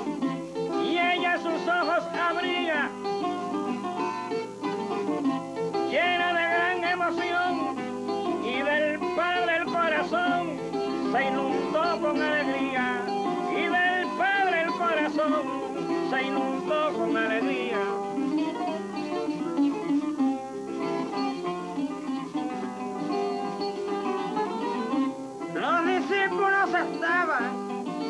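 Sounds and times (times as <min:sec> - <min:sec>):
folk music on plucked strings: 0:00.0 - 0:28.0.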